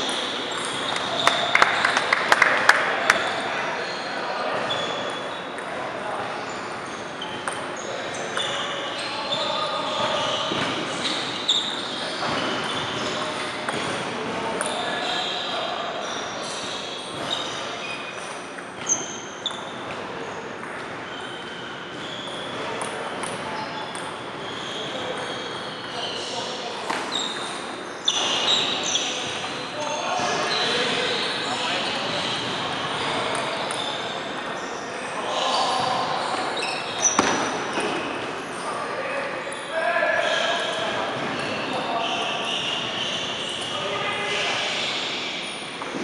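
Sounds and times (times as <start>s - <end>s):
sneakers squeaking on gym floor: 0.0s - 2.1s, 2.9s - 46.0s.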